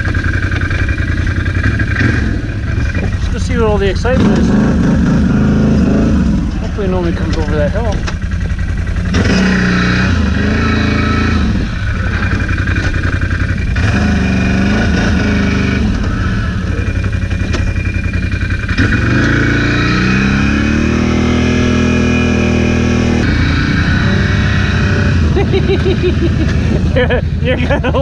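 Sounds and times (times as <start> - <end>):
atv engine revving: 0.0 - 28.0.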